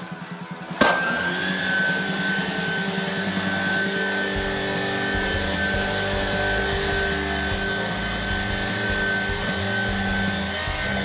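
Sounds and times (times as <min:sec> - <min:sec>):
stick vacuum motor whine: 0:00.0 - 0:11.0.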